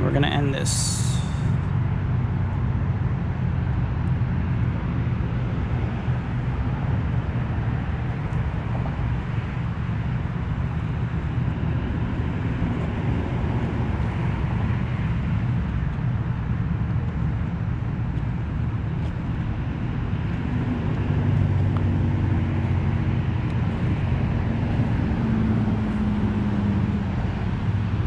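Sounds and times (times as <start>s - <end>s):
highway traffic rumble: 0.0s - 28.0s.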